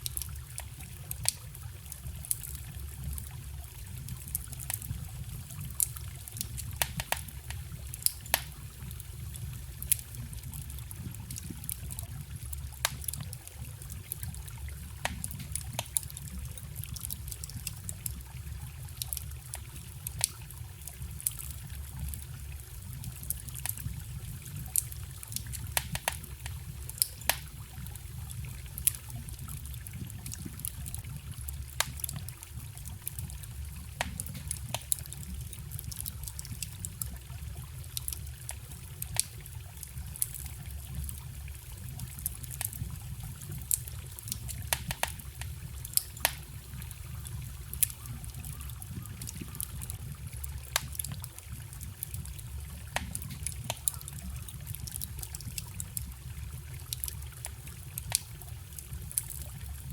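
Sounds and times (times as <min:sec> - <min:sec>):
stream trickling: 0:00.0 - 0:59.9
wood fire crackling: 0:00.0 - 0:59.9.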